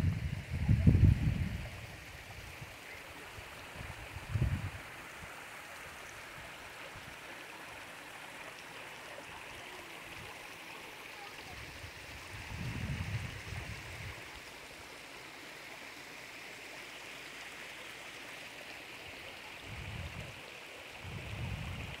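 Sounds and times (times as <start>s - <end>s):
river flowing over rocks: 1.8s - 12.5s, 13.4s - 21.2s.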